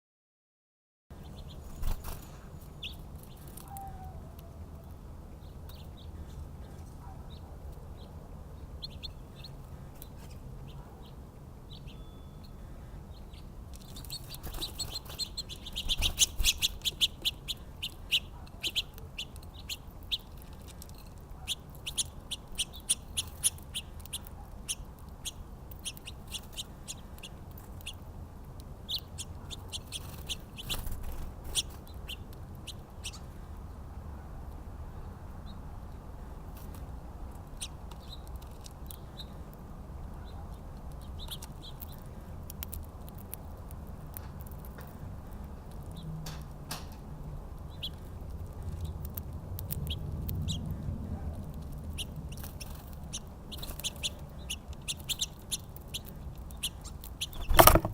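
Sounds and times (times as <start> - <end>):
small songbirds chirping: 1.1 - 34.0, 34.8 - 46.2, 47.4 - 57.9.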